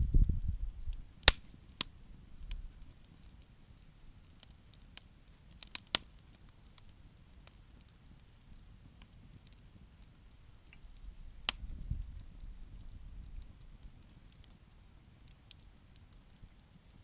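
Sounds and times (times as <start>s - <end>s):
burning wood popping: 0.0s - 17.0s
campfire crackling: 0.0s - 17.0s.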